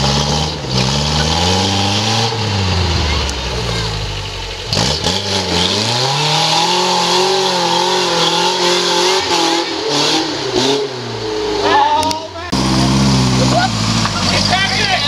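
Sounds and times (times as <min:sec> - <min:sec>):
buggy engine revving hard: 0:00.0 - 0:15.0.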